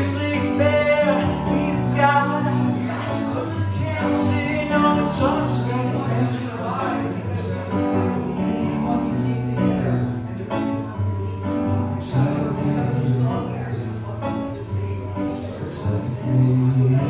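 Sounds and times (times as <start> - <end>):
man singing into a microphone: 0.0 - 17.0
synthesizer keyboard chords: 0.0 - 17.0.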